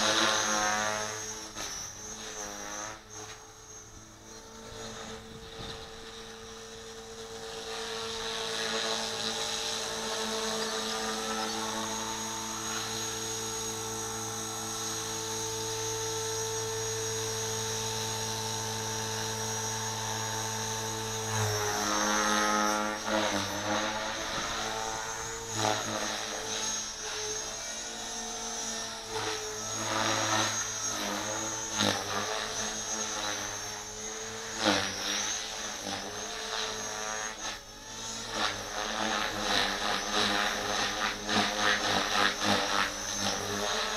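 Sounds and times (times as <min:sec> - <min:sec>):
rc helicopter whining hum: 0:00.0 - 0:43.9.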